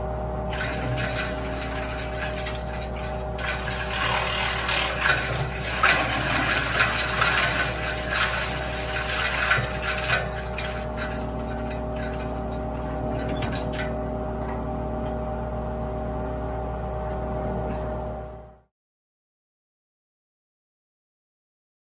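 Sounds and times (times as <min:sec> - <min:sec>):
wood chipper running: 0:00.0 - 0:18.5.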